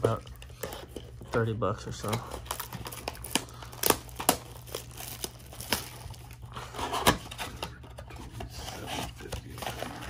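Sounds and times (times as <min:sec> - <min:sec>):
plastic shrink wrap rustling: 0:00.0 - 0:10.0.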